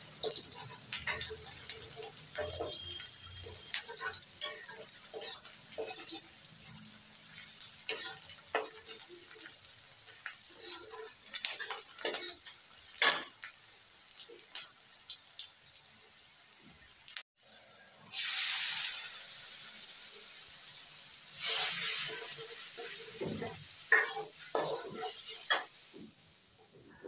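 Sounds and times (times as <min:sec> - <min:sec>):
food sizzling in oil: 0:00.0 - 0:27.0.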